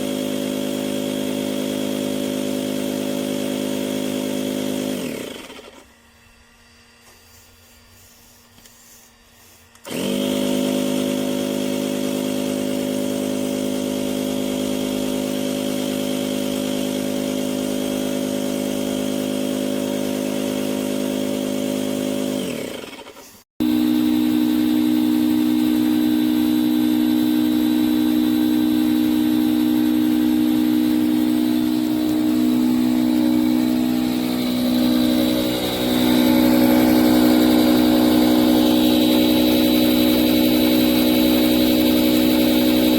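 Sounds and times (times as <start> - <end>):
electric pump motor hum: 0.0 - 42.9.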